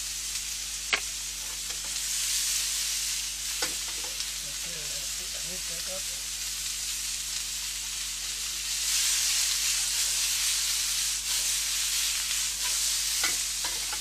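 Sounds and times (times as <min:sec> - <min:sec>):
stir-fry sizzling in a frying pan: 0:00.0 - 0:14.0.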